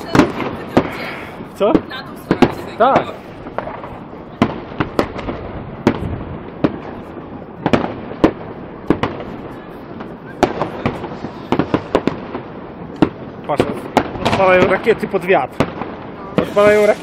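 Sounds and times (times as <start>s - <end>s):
far-off firework bursts: 0.0s - 17.0s
fireworks bangs and cracks: 0.0s - 17.0s.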